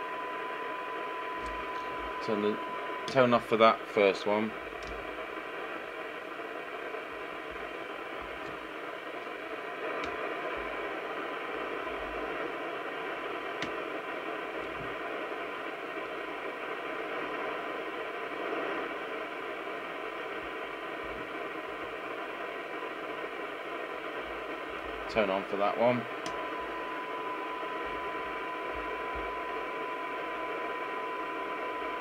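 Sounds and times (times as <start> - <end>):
radio receiver hiss: 0.0 - 32.0.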